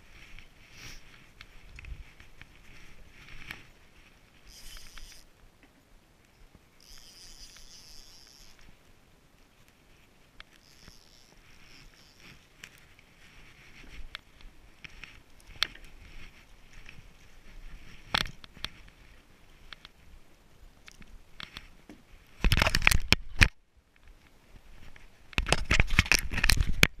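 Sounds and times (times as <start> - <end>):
crackling rumble on microphone: 0.0 - 27.0
small clicks and rustles: 0.0 - 27.0.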